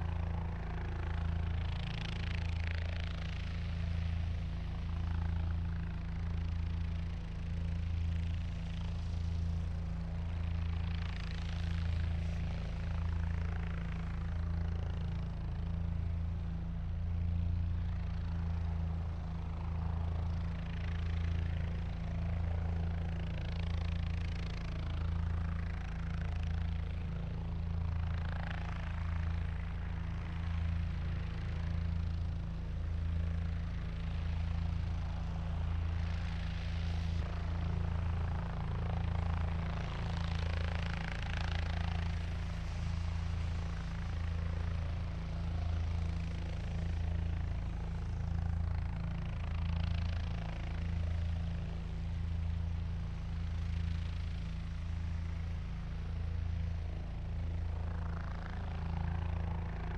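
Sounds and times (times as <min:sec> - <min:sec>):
helicopter rotor beat: 0:00.0 - 0:59.9.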